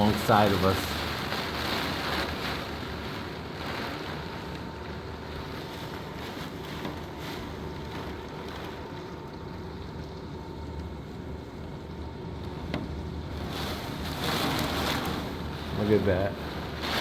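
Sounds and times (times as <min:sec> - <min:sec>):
hurricane wind: 0:00.0 - 0:09.3, 0:12.0 - 0:17.0
driving rain against house: 0:00.0 - 0:17.0.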